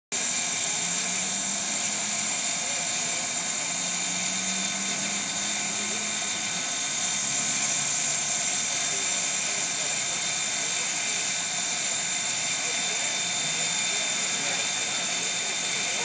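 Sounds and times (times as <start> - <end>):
steam locomotive hissing: 0.1 - 16.0.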